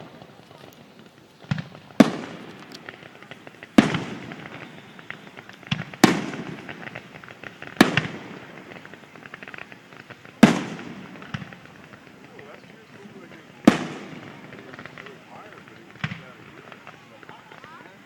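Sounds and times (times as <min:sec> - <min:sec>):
fireworks booming: 0:00.0 - 0:18.0
fireworks crackling: 0:00.0 - 0:18.0.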